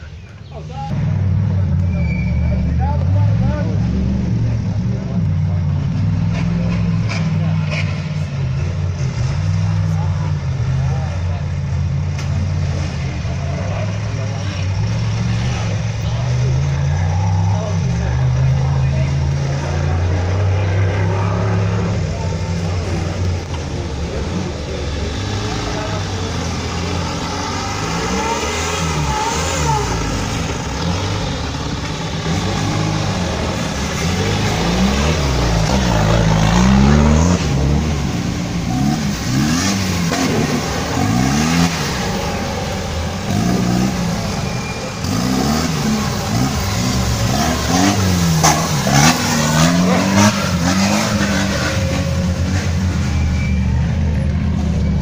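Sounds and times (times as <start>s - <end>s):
buggy engine revving: 0.0s - 55.0s.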